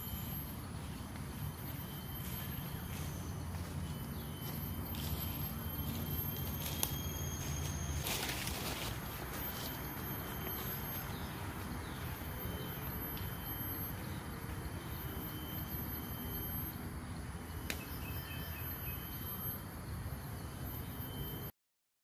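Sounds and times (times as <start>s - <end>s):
insects chirring: 0.0s - 21.5s.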